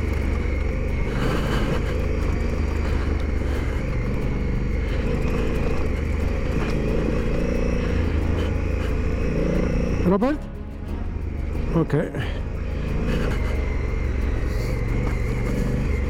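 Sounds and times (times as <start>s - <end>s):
motorcycle engine drone: 0.0s - 16.0s
road and wind noise: 0.0s - 16.0s.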